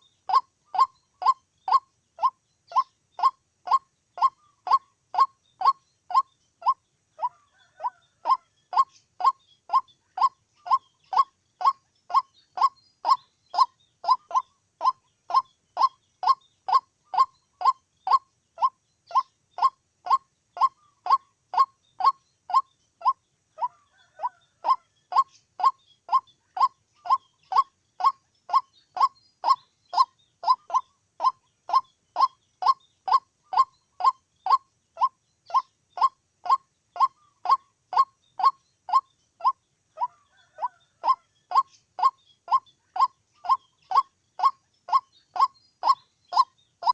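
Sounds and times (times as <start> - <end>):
waterhen repeated kwok call: 0.0 - 46.9.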